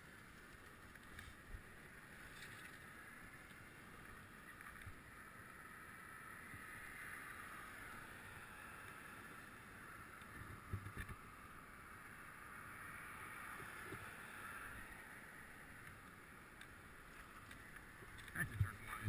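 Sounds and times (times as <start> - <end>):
bicycle rolling: 0.0 - 19.0.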